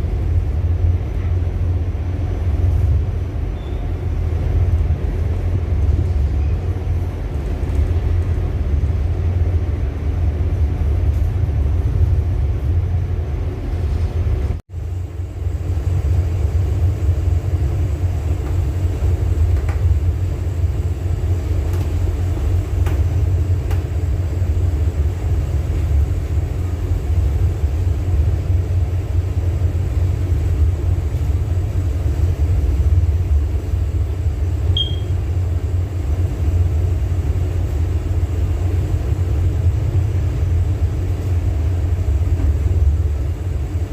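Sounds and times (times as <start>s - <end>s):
low rumble aboard a ship: 0.0s - 43.9s.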